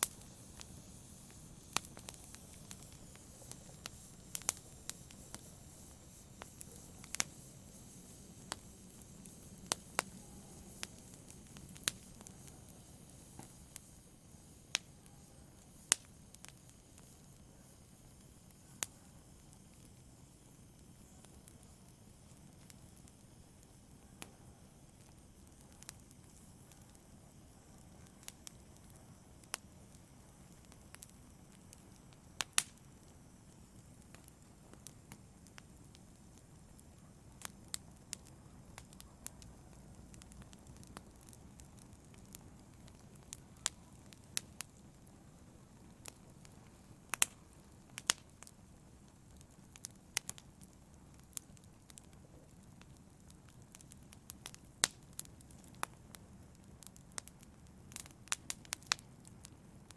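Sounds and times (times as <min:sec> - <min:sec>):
fire hissing: 0:00.0 - 0:59.9
wood fire crackling and popping: 0:00.0 - 0:59.9.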